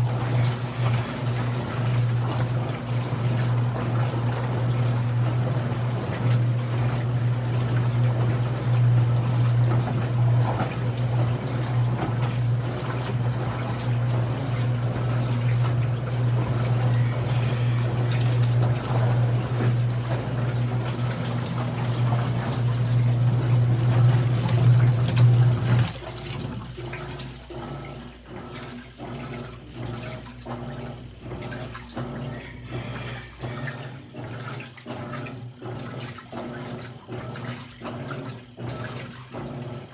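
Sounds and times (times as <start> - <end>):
washing machine motor hum: 0.0 - 39.9
water churning and sloshing: 0.0 - 39.9.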